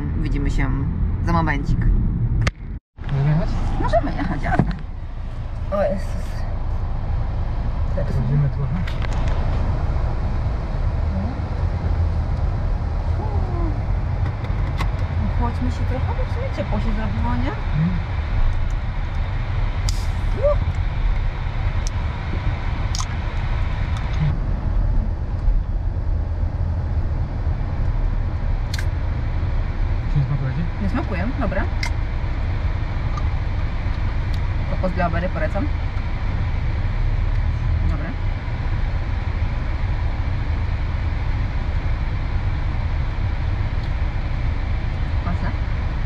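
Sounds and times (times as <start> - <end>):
road and engine rumble in car: 0.0 - 46.0.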